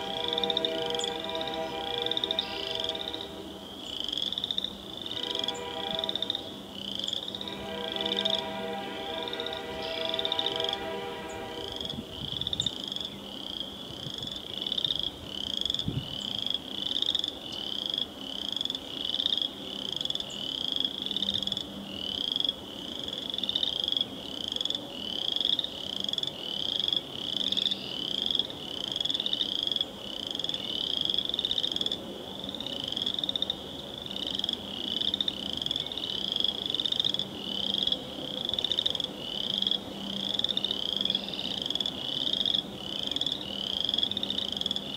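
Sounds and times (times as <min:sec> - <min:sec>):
frogs peeping: 0:00.0 - 0:44.9.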